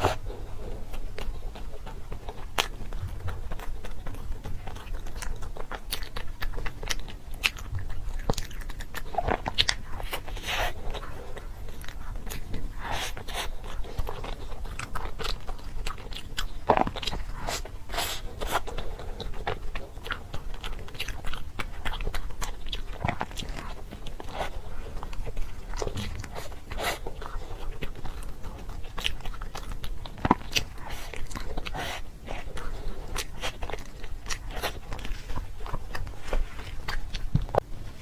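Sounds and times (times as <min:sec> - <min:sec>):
chewing crunchy food: 0:00.0 - 0:38.0.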